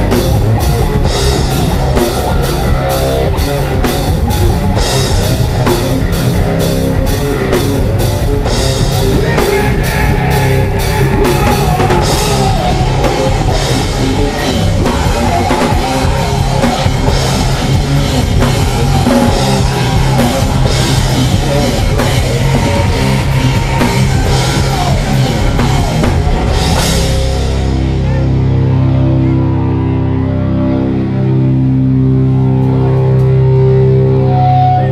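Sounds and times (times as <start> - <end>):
drum and cymbal hits: 0.0 - 28.0
rock band playing live: 0.0 - 34.9.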